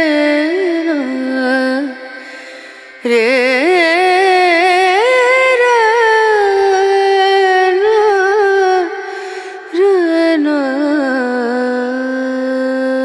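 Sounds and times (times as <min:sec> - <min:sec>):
person singing with vibrato: 0:00.0 - 0:13.0.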